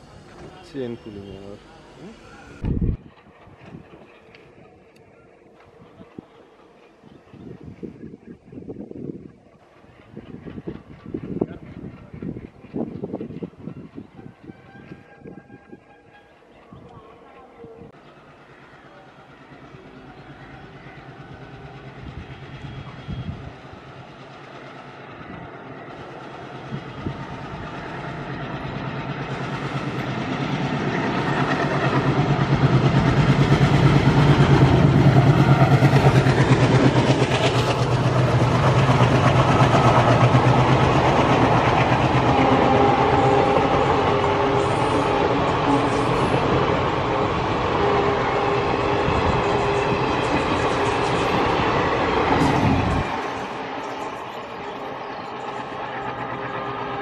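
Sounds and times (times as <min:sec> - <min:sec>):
diesel locomotive chugging: 0:00.0 - 0:57.0
train wheels clattering on track: 0:02.7 - 0:08.2, 0:09.2 - 0:15.4, 0:18.0 - 0:57.0.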